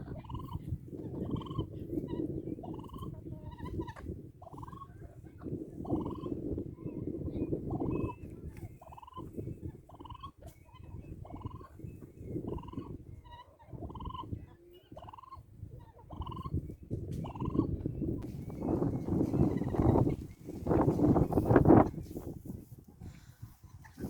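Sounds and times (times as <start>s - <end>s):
turkeys calling: 0.0s - 21.9s.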